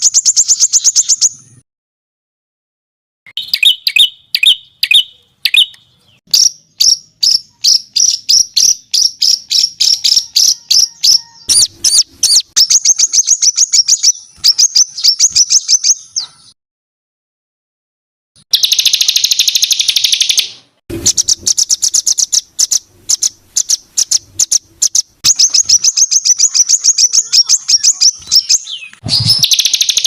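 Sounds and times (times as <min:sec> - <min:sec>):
songbird singing: 0:00.0 - 0:01.6, 0:03.3 - 0:16.6, 0:18.5 - 0:30.0.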